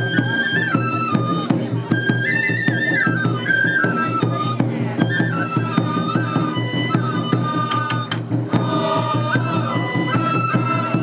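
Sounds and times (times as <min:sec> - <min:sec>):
bamboo flute melody: 0:00.0 - 0:11.0
steady drum strokes: 0:00.0 - 0:11.0.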